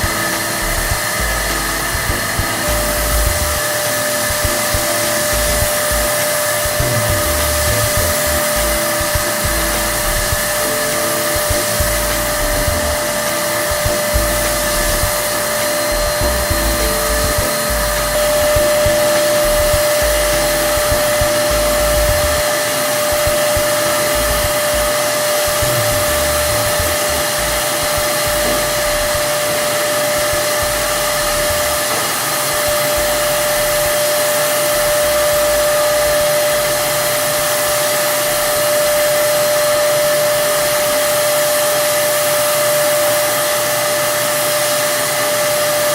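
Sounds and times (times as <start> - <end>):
spray hissing: 0.0 - 45.2
electric spray gun motor whine: 0.0 - 45.9.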